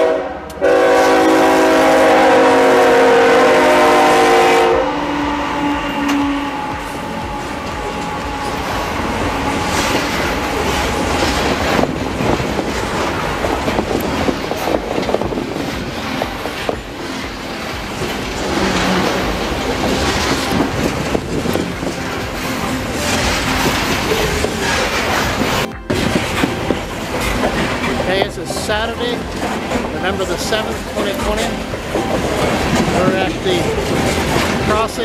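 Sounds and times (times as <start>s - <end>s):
diesel locomotives: 0.0s - 35.0s
train rumble: 0.0s - 35.0s
train wheels clacking on rail joints: 5.1s - 35.0s.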